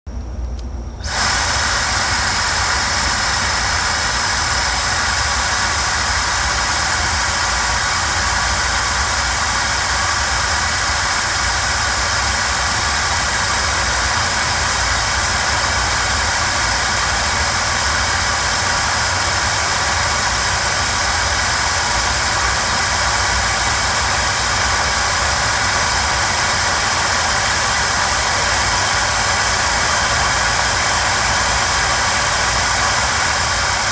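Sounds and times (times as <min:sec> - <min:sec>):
hair dryer running: 0:01.0 - 0:33.9.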